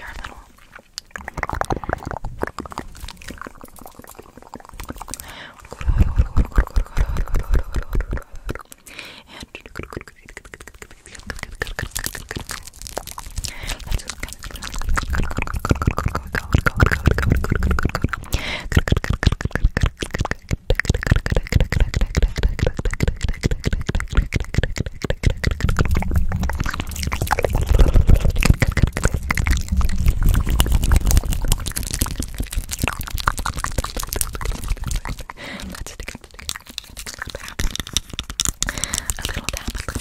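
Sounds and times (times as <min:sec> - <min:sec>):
wet mouth clicks and smacks: 0:00.0 - 0:40.0.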